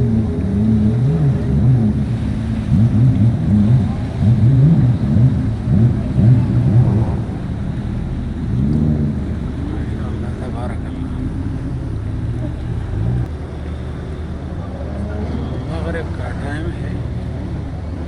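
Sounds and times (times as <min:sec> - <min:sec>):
motorboat engine running: 0:00.0 - 0:18.0
wind and water noise: 0:00.0 - 0:18.0.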